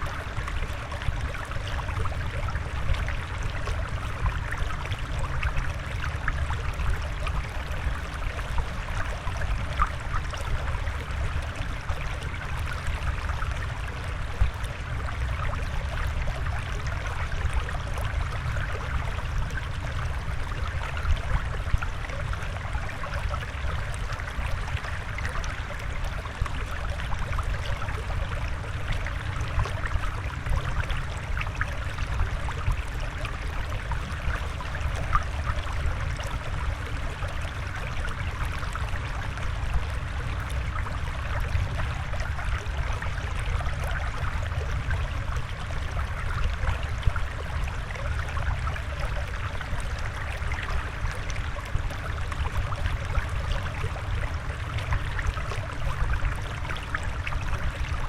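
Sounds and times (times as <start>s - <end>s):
trickling water with splashes: 0.0s - 58.0s.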